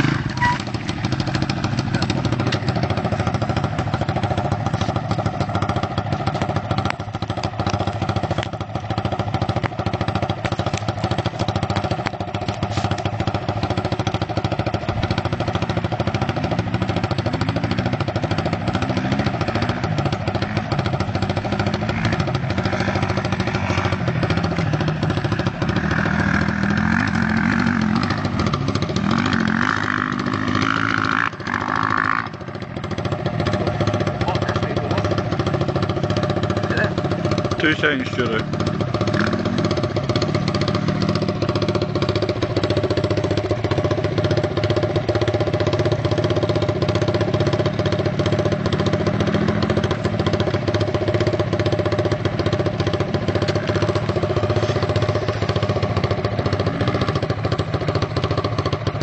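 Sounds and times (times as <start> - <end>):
small motorcycle engines revving: 0.0 - 59.0.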